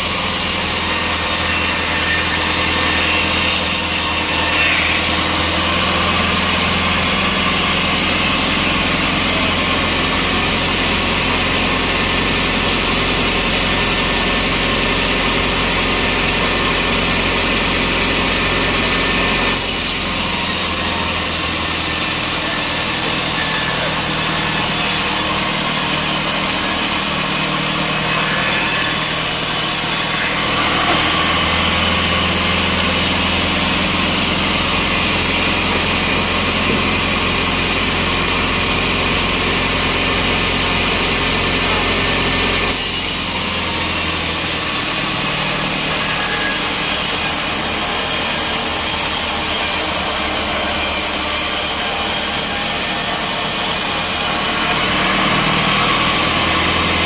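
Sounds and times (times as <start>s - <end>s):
engine-driven saw cutting log: 0.0s - 57.0s.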